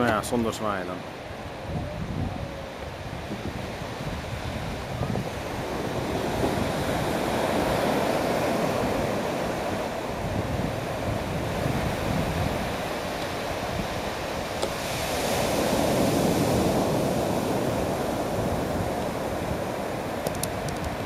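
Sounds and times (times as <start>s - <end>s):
surf washing up a beach: 0.0s - 21.0s
wind rumbling on microphone: 1.1s - 21.0s.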